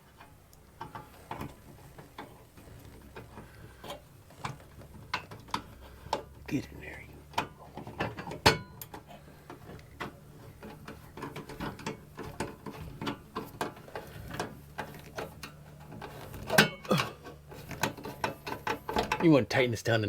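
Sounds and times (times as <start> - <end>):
metal clatter: 0.0 - 19.4.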